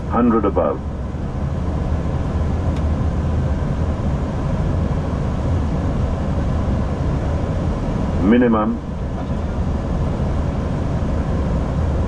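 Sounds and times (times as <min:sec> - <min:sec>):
cockpit low drone: 0:00.0 - 0:12.0.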